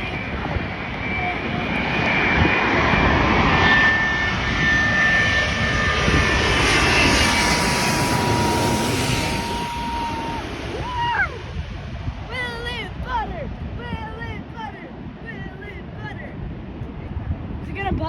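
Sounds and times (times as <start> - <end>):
jet airliner roaring overhead: 0.0 - 17.6.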